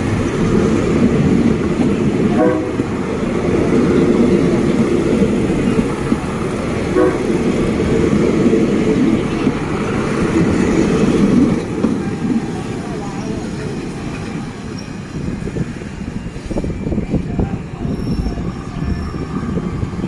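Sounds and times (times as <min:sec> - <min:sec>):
diesel railcar engines running: 0:00.0 - 0:20.0.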